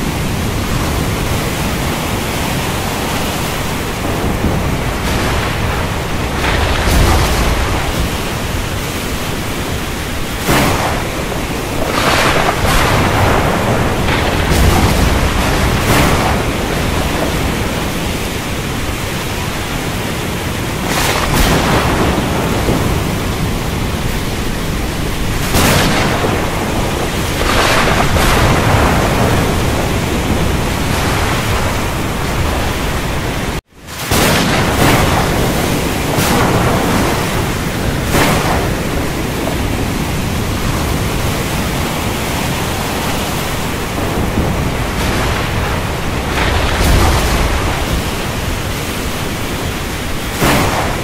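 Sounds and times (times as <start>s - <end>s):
heavy rain hiss: 0.0s - 51.0s
thunder: 0.0s - 51.0s.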